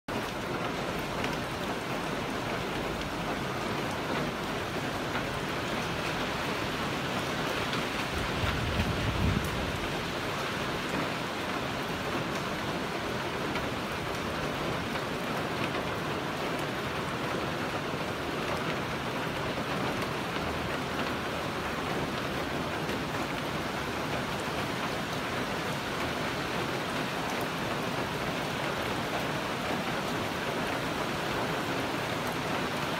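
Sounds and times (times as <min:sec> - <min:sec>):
rain falling on leaves: 0:00.1 - 0:32.9.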